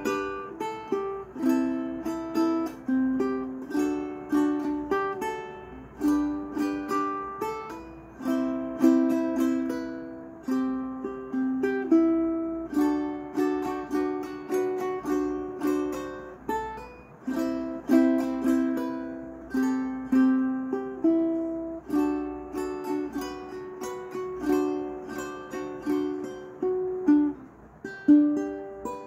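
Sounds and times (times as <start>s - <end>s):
ukulele melody: 0.0s - 29.0s.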